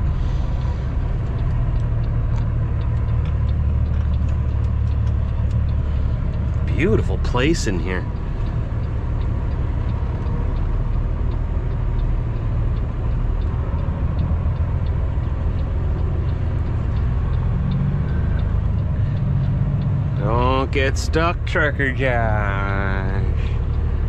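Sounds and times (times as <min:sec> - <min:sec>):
diesel truck engine low rumble: 0:00.0 - 0:24.0
faint regular ticking: 0:00.0 - 0:24.0.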